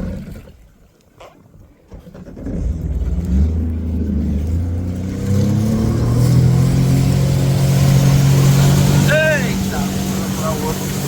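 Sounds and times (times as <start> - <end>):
jet ski engine revving: 1.9 - 11.0.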